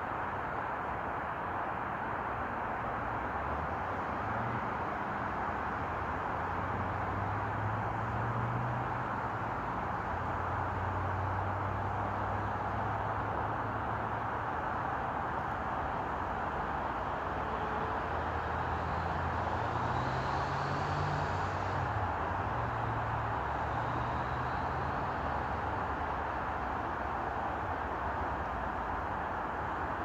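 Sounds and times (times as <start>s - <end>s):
low engine hum: 3.0s - 30.0s.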